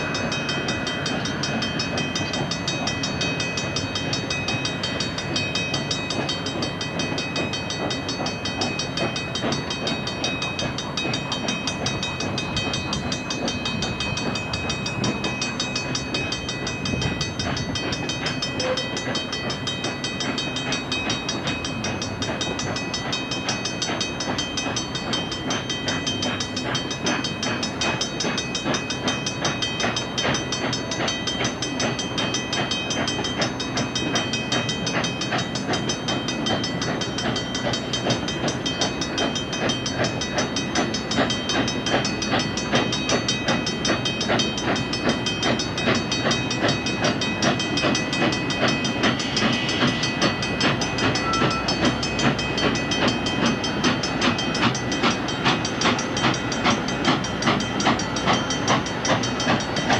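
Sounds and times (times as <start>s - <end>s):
steam locomotive exhaust beats: 0.0s - 59.9s
train wheels clattering on rails: 0.0s - 59.9s.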